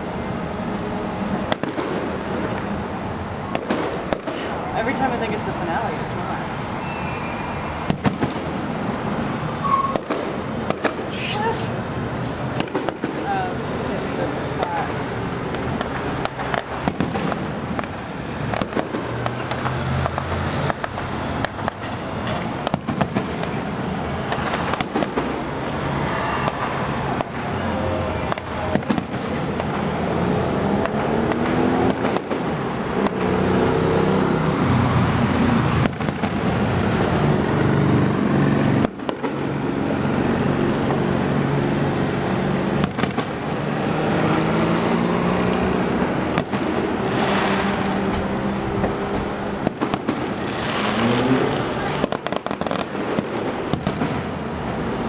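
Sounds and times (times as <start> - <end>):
fireworks crackle: 0.9 - 33.7, 34.6 - 43.9, 45.0 - 55.0
fireworks bangs: 1.0 - 55.0.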